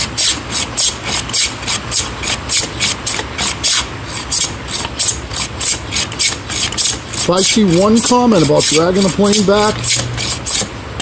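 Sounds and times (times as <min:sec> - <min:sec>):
hand plane scraping wood: 0:00.0 - 0:10.8.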